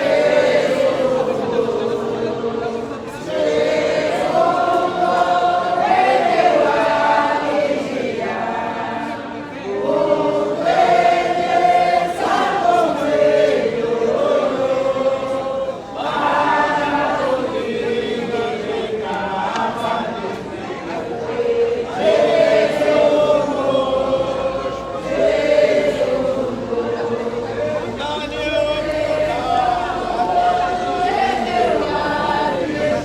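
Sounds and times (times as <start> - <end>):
group singing a hymn: 0.0 - 33.0.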